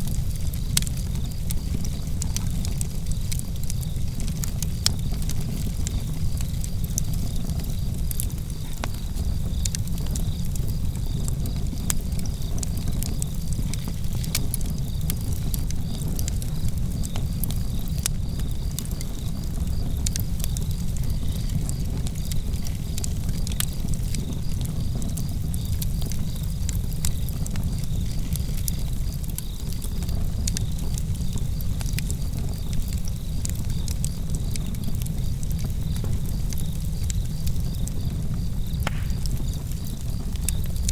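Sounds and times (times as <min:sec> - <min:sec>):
campfire crackling and popping: 0:00.0 - 0:40.9
crickets chirping: 0:00.2 - 0:40.9.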